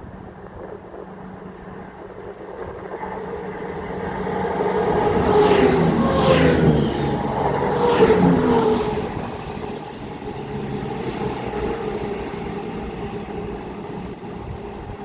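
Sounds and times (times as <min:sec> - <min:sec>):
diesel train engine: 0:00.0 - 0:15.0.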